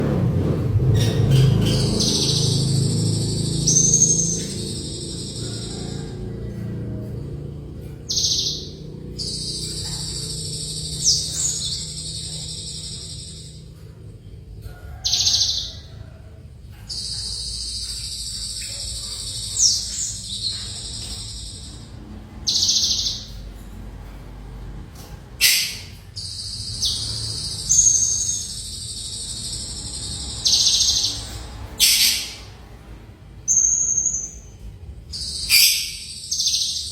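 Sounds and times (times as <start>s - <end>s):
sparrow singing: 0.8s - 24.2s, 25.0s - 36.9s.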